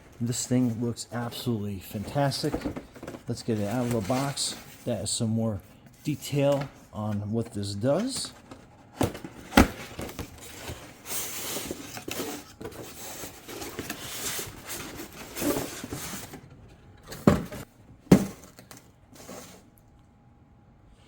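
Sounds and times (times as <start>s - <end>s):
items knocking down: 0.0s - 4.9s, 6.3s - 19.5s
cardboard packaging rustling: 0.0s - 19.7s.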